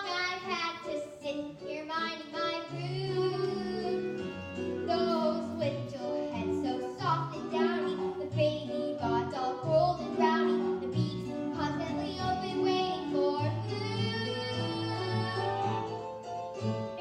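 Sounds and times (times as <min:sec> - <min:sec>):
young voices singing: 0:00.0 - 0:16.0
instrumental backing music: 0:00.0 - 0:17.0.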